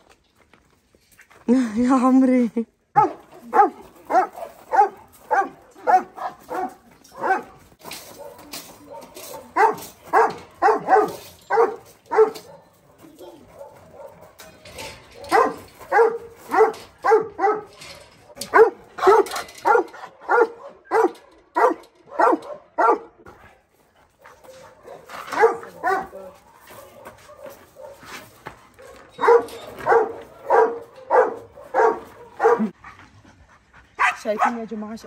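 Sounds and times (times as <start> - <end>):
dogs barking: 2.9 - 23.2, 24.2 - 32.8, 34.0 - 34.6.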